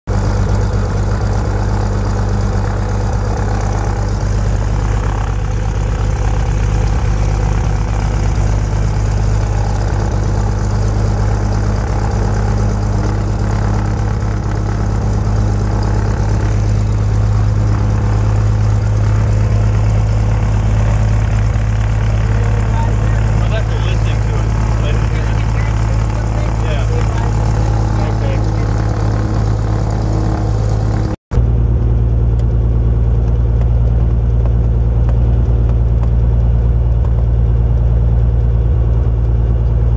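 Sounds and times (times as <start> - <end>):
propeller plane engine idling: 0.1 - 39.9.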